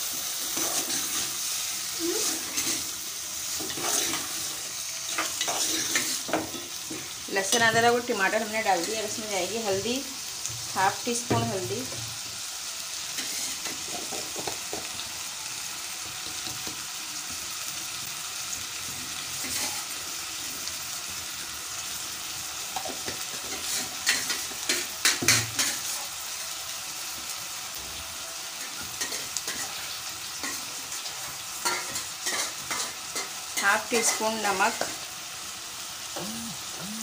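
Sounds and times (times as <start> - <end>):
food sizzling in oil: 0.0 - 37.0.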